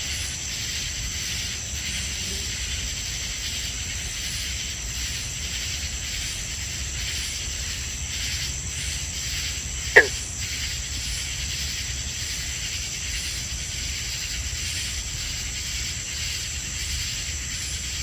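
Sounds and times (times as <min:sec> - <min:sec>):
insects trilling: 0:00.0 - 0:18.0
rhythmic pulsing insect chorus: 0:00.0 - 0:18.0.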